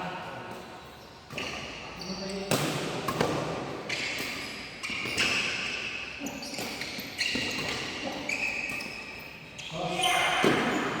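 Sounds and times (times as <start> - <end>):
shoes squeaking on court floor: 0.5 - 11.0.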